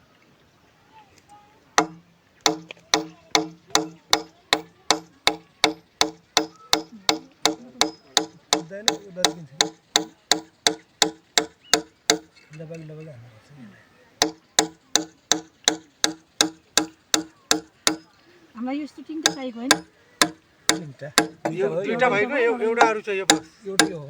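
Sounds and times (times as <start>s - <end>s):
hand tool striking wood: 1.8s - 12.6s, 14.2s - 18.2s, 19.2s - 24.0s.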